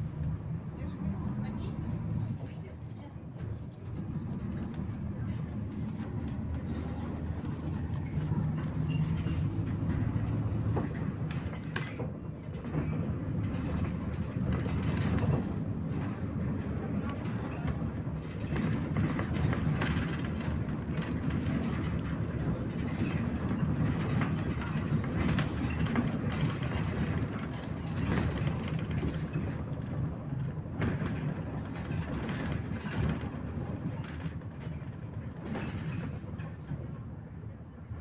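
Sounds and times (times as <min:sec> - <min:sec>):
bus body rattling and knocking: 0:00.0 - 0:38.0
bus engine and road rumble: 0:00.0 - 0:38.0.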